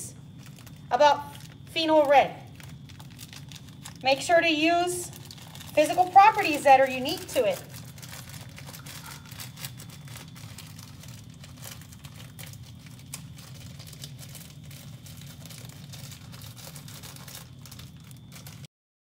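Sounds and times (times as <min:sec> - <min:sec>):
faint crinkling and crackling: 0:00.0 - 0:18.7
low steady hum: 0:00.0 - 0:18.7.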